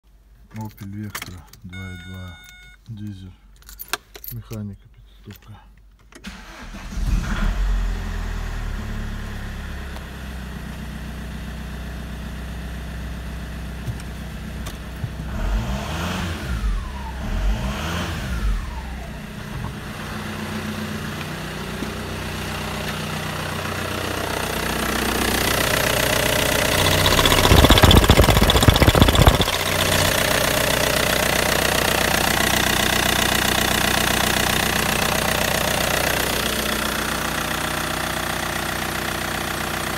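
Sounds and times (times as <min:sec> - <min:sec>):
diesel engine idling and revving: 0:06.4 - 0:39.9.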